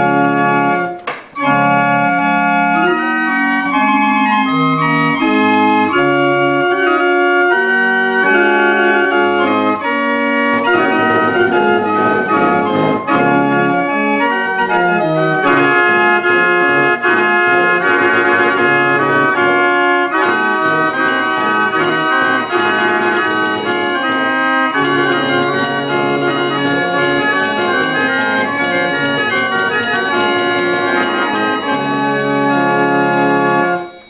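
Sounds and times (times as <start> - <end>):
barrel organ playing: 0.0 - 34.0.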